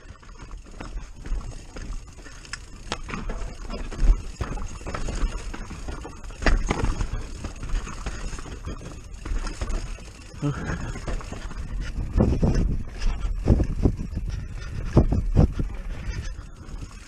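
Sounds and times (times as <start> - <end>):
tyres crunching over stones: 0.0 - 15.0
bike knocking on rocks: 0.0 - 17.0.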